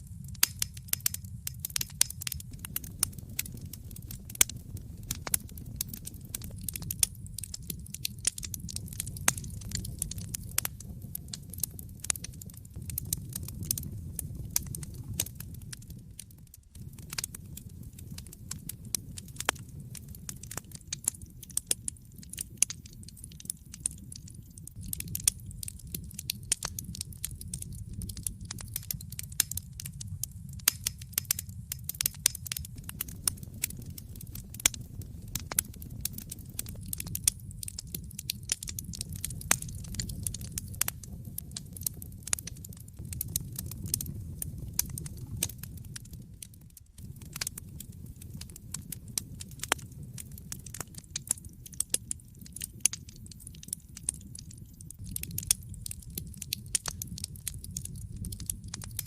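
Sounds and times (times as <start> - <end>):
fire crackling with pops and snaps: 0.0 - 59.0
low rumble of burning logs: 0.0 - 59.0.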